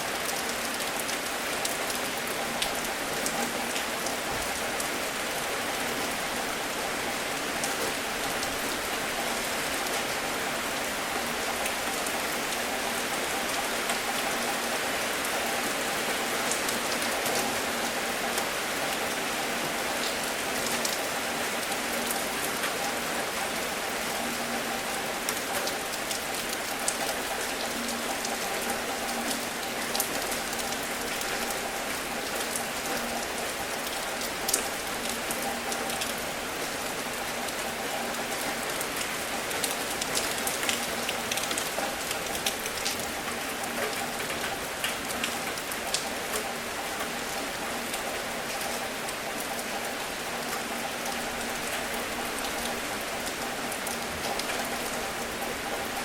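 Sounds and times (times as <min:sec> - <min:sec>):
sharp ticks of raindrops: 0:00.0 - 0:56.0
steady rain hissing: 0:00.0 - 0:56.0.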